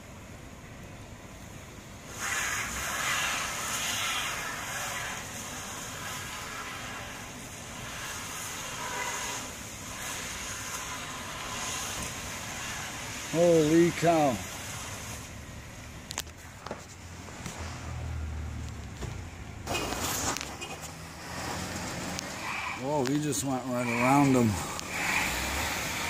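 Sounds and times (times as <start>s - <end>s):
car tyres spinning on ice: 0.0s - 26.0s.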